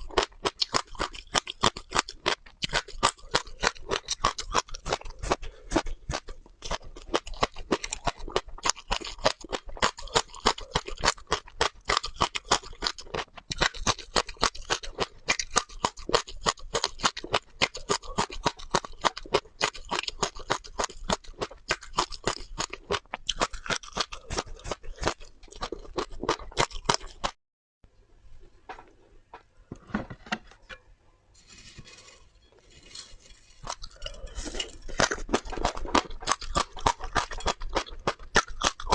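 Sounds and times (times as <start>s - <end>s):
chewing crunchy seeds: 0.0s - 27.4s, 33.2s - 38.9s.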